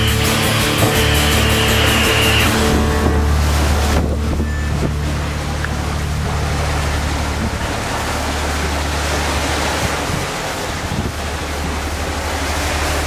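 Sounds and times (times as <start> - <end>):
low hum: 0.0 - 13.0
water rushing along a hull: 0.0 - 13.0
wind buffeting microphone: 0.0 - 13.0.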